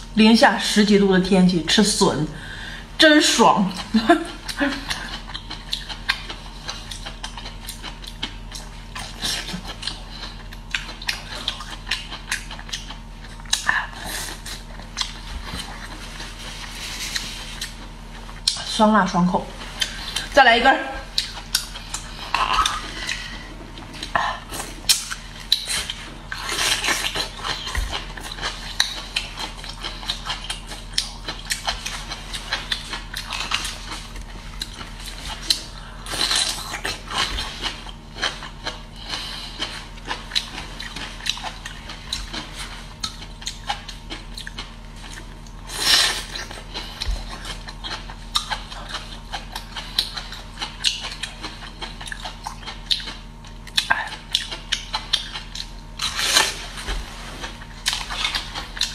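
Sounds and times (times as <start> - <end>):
crunchy chewing: 3.8 - 18.8, 21.0 - 58.9.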